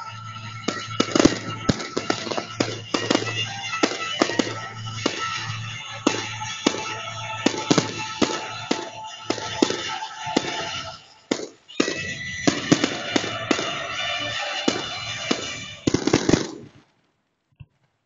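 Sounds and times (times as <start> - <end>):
music: 0.0 - 16.4
fireworks bangs: 0.0 - 17.0.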